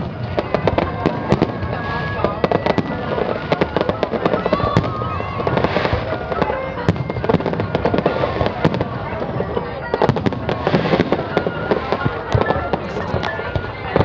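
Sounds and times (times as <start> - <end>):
fireworks bangs and crackles: 0.0 - 14.0
music: 0.0 - 14.0
voices: 0.0 - 14.0.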